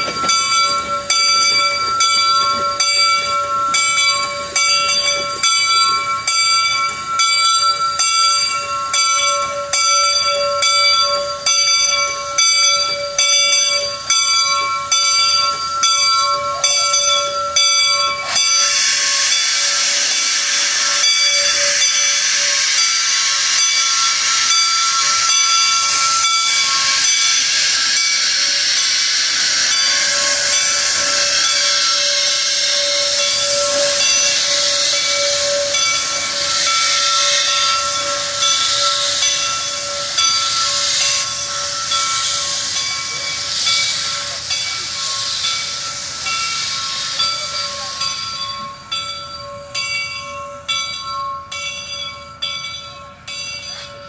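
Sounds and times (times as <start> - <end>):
locomotive bell ringing: 0.0 - 54.0
steam locomotive hissing steam: 0.0 - 54.0.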